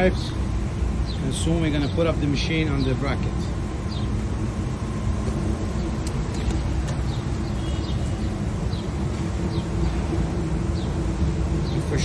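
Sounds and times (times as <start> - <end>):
faint hum: 0.0 - 12.0
steady low rumble: 0.0 - 12.0.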